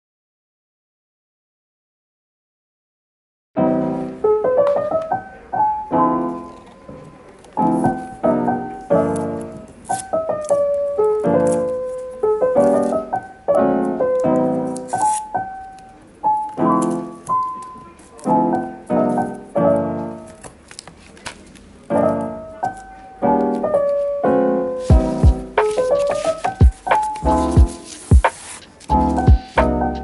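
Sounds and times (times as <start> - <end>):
piano music: 3.6 - 20.4, 21.7 - 30.0.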